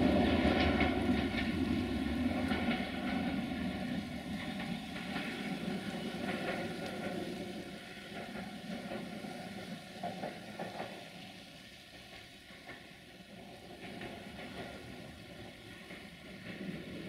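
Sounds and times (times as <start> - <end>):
distant rail traffic rushing: 0.0 - 17.0.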